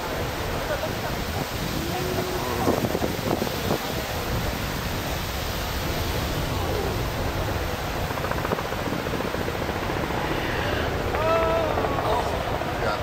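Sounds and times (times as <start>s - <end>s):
ocean surf: 0.0s - 13.0s
faint voices: 0.2s - 4.8s, 5.5s - 8.7s, 9.4s - 13.0s
wind rushing: 1.0s - 13.0s.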